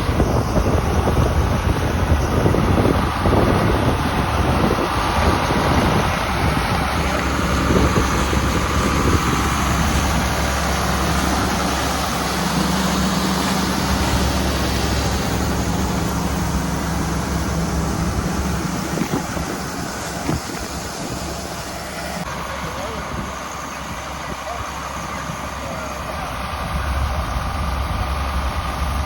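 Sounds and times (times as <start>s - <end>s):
diesel engine humming: 0.0s - 29.0s
wind buffeting microphone: 0.0s - 29.0s.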